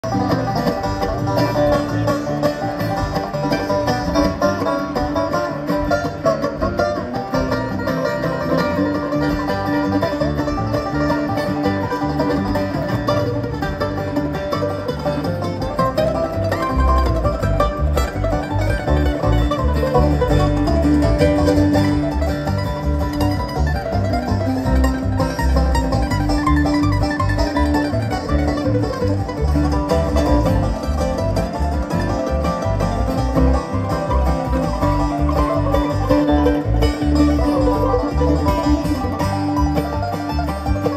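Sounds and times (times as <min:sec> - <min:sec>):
banjo rolls: 0:00.0 - 0:40.9
live bluegrass band playing: 0:00.0 - 0:40.9.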